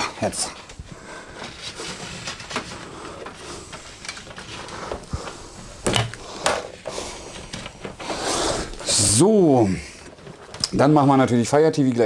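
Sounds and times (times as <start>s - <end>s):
cable handling rustling: 0.0s - 12.0s.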